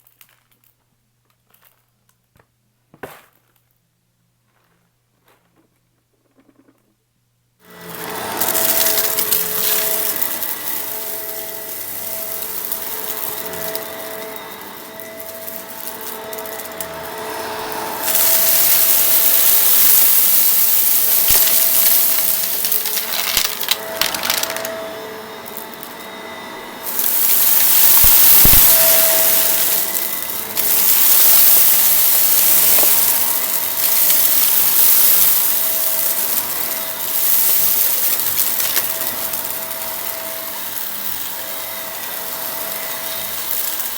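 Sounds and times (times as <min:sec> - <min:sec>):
debris crackling in vacuum: 0:07.6 - 0:43.9
vacuum cleaner motor whine: 0:07.6 - 0:43.9.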